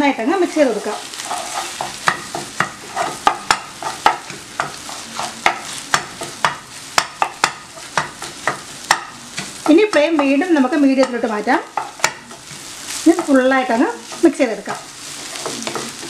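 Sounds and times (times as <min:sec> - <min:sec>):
light frying sizzle: 0:00.0 - 0:16.0
spatula scraping a frying pan: 0:00.4 - 0:16.0.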